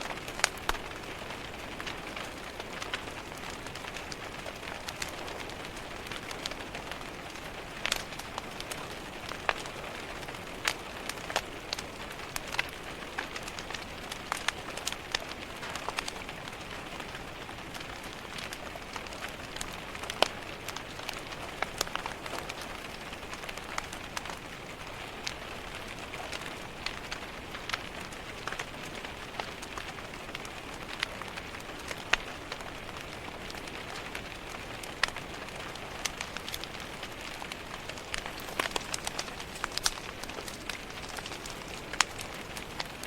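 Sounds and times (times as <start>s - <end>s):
rain tapping on a window: 0.0s - 43.0s
wood fire crackling: 0.0s - 43.0s.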